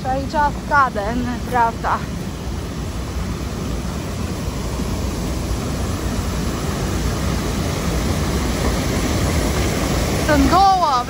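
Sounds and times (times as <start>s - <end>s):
water rushing down a drop: 0.0s - 11.0s.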